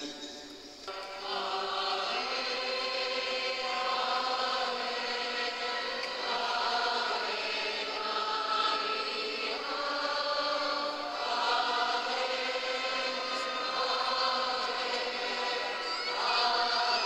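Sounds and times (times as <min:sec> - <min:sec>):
group singing a slow hymn: 0:00.0 - 0:17.0.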